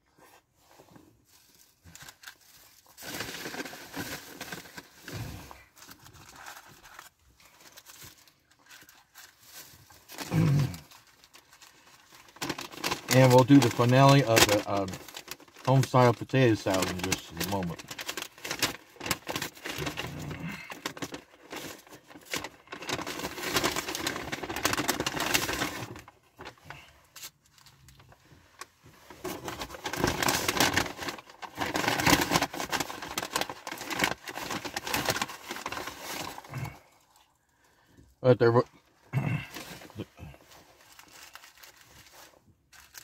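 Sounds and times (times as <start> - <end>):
food packaging crinkling: 1.3 - 37.9, 39.3 - 43.0.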